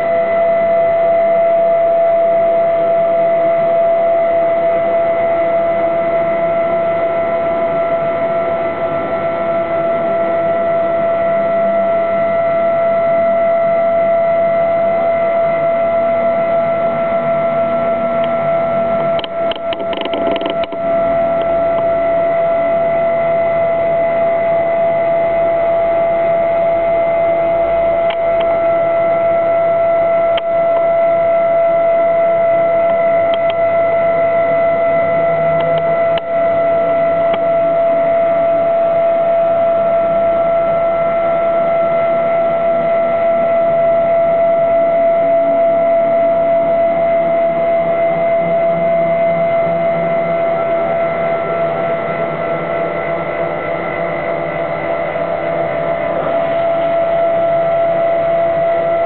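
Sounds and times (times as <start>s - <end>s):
stepper motor whine: 0.0s - 59.0s.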